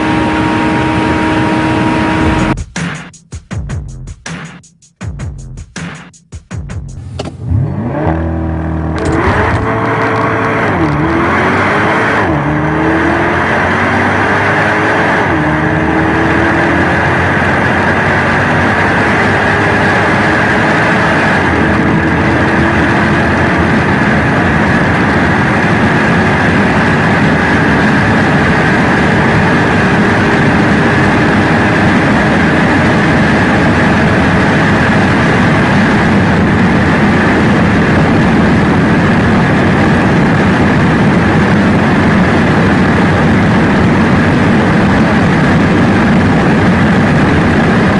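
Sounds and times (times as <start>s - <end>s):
car engine revving: 0.0s - 2.6s, 6.7s - 47.9s.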